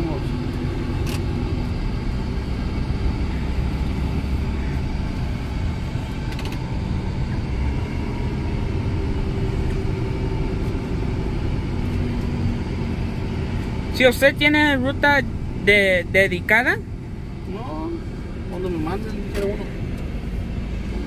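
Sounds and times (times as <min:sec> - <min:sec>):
truck engine and tyres droning: 0:00.0 - 0:21.0.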